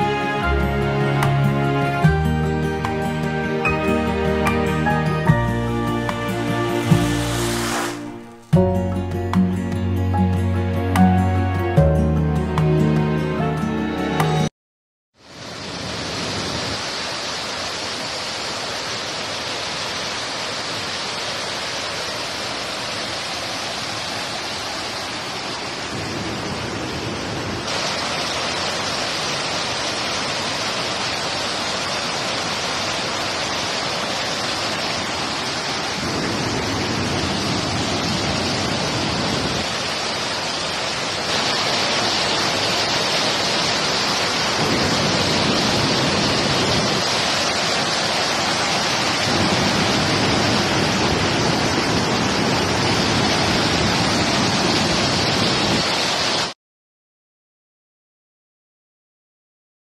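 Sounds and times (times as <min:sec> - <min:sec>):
waterfall rushing: 0:00.0 - 0:08.8, 0:15.2 - 0:56.6.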